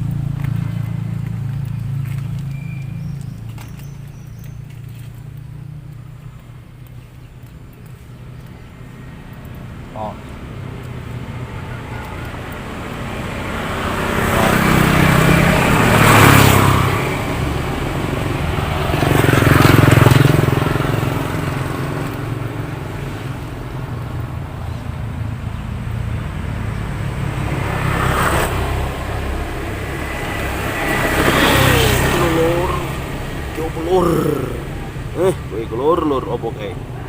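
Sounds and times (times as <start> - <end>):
low engine hum: 0.0 - 37.0
vehicles passing on road: 0.0 - 37.0.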